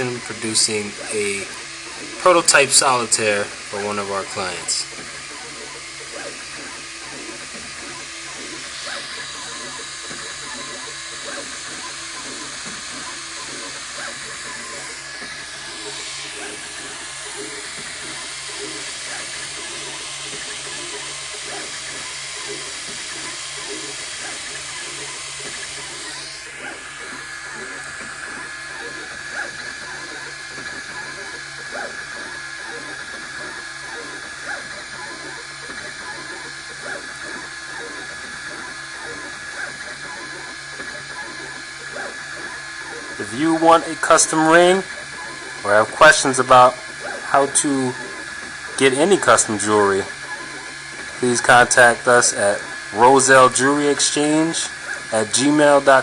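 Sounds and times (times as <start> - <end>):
printer stepper motors chattering: 0.0 - 56.0.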